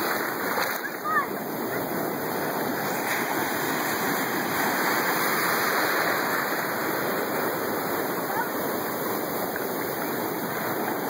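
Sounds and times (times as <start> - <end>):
ocean surf breaking waves: 0.0 - 11.0.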